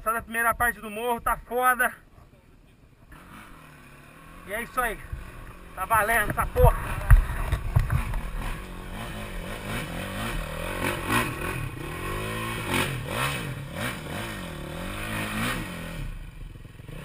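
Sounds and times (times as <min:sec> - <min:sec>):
dirt bike engine revving: 0:03.1 - 0:17.0.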